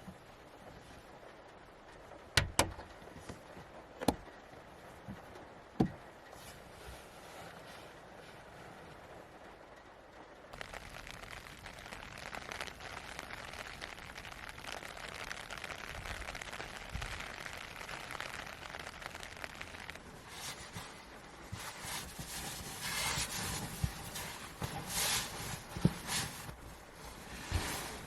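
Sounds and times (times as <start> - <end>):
campfire crackling and popping: 0.0 - 28.0
steady hiss: 0.0 - 28.0.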